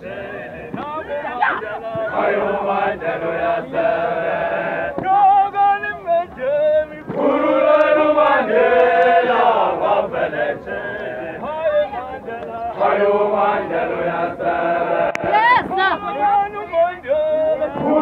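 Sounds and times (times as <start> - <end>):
group chanting and singing: 0.0 - 18.0.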